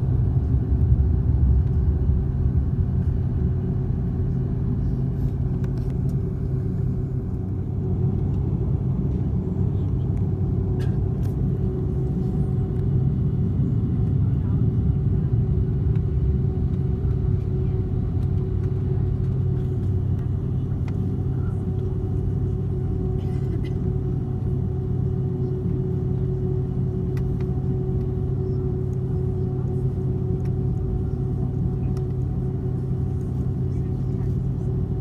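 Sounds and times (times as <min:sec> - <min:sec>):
airliner cabin rumble: 0:00.0 - 0:35.0
jet engine hum: 0:00.0 - 0:35.0.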